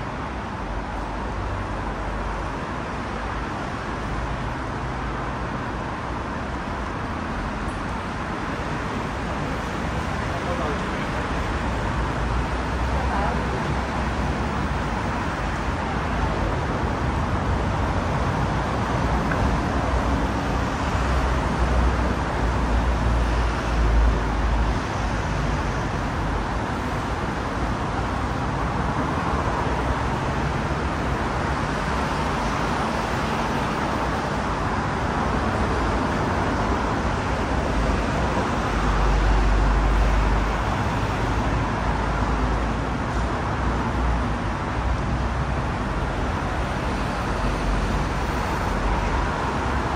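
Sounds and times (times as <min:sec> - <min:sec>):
heavy vehicles rumbling: 0:00.0 - 0:49.9
road traffic noise: 0:00.0 - 0:49.9.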